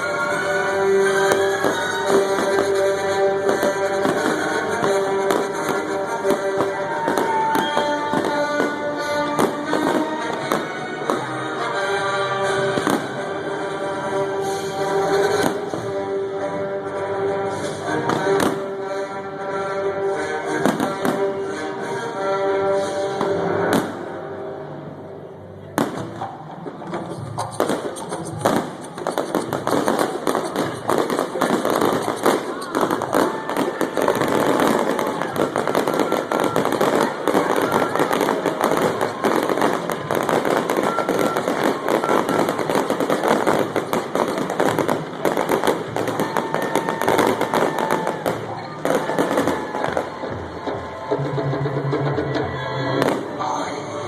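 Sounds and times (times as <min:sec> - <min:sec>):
fireworks bursting: 0:00.0 - 0:24.4, 0:25.8 - 0:51.2, 0:52.9 - 0:54.0
orchestral music over sound system: 0:00.0 - 0:46.1, 0:47.1 - 0:54.0.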